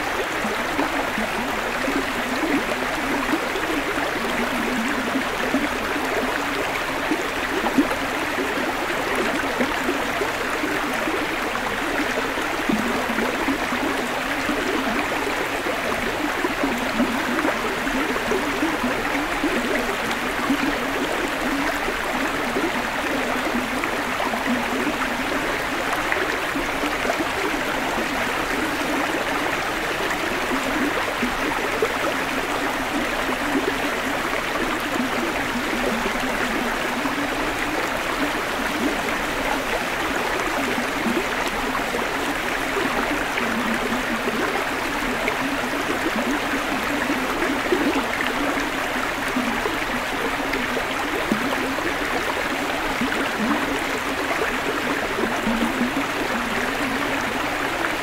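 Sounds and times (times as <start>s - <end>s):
creek water running over rocks: 0.0s - 58.0s.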